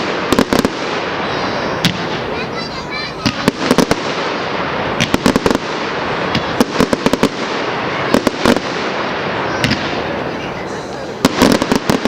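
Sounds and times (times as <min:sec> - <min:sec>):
firework bangs: 0:00.0 - 0:12.0
hissing crackle of fireworks: 0:00.0 - 0:12.0.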